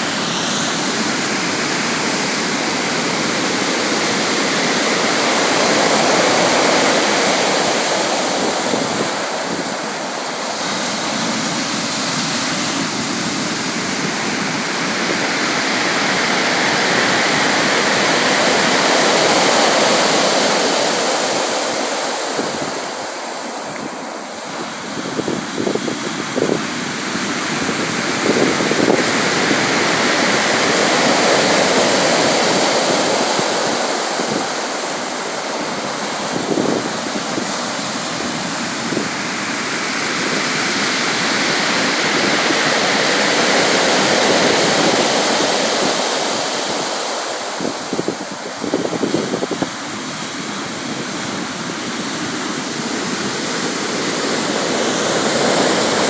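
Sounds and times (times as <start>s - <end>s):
waves washing in: 0.0s - 56.0s.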